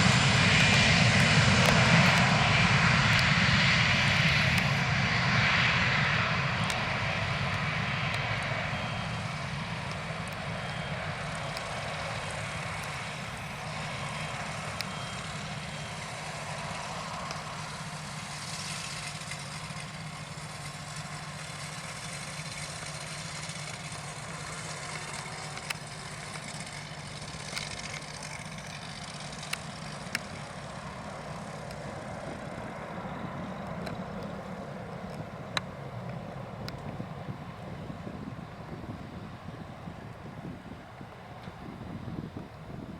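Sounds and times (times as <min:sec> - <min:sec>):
jet engine rumble: 0:00.0 - 0:42.9.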